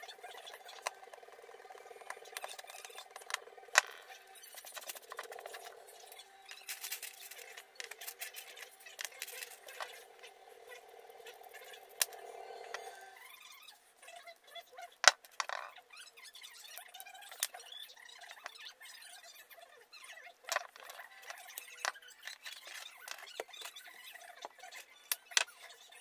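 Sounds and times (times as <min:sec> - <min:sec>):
small screws clicking and scraping: 0:00.0 - 0:13.8, 0:14.9 - 0:18.8, 0:20.4 - 0:25.9.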